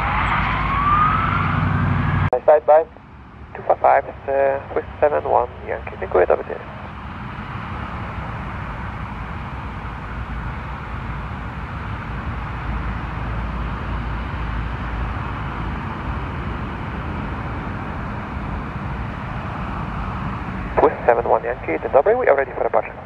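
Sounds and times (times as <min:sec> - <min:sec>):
jet engines taxiing: 0:00.0 - 0:23.0.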